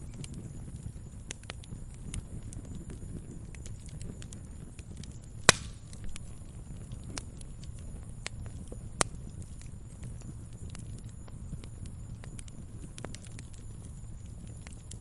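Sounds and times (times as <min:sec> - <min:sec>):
fire crackling and popping: 0:00.0 - 0:15.0
fire rumbling in fireplace: 0:00.0 - 0:15.0.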